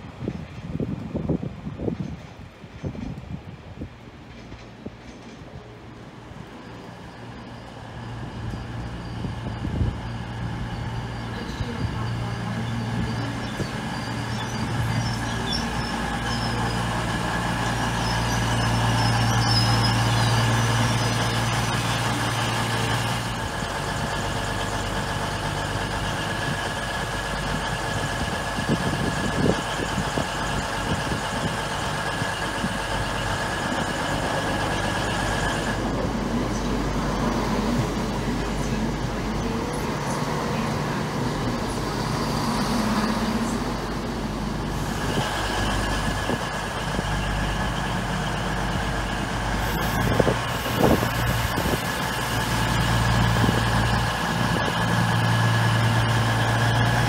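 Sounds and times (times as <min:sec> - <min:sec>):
electric train moving: 0:00.0 - 0:57.0
train diesel engines humming: 0:00.0 - 0:57.0.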